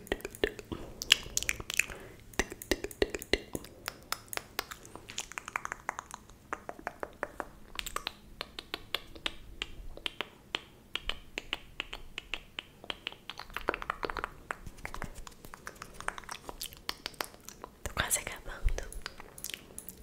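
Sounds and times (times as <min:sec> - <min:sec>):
wet mouth clicks and pops: 0:00.0 - 0:18.1, 0:18.7 - 0:20.0.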